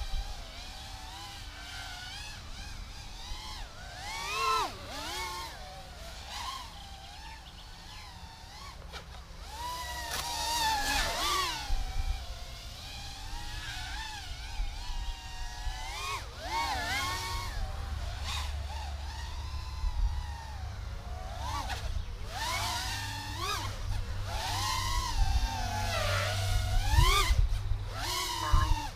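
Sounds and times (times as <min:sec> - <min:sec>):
drone motors whining: 0:00.0 - 0:28.9.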